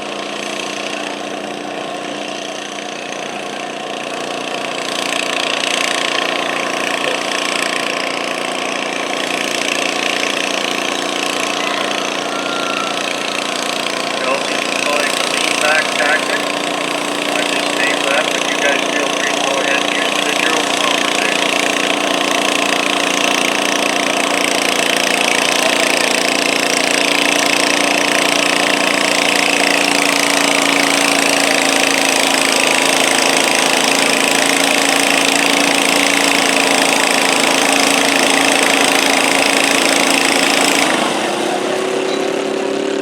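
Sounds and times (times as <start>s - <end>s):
garden tractor engine under load: 0.0s - 43.0s.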